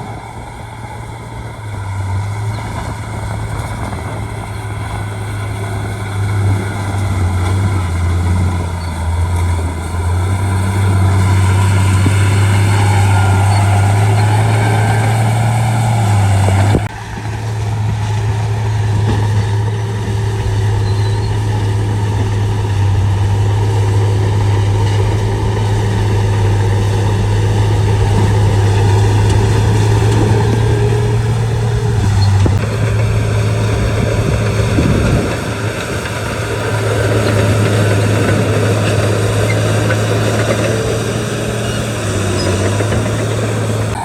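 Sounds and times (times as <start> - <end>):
bulldozer diesel engine droning: 0.0 - 44.0.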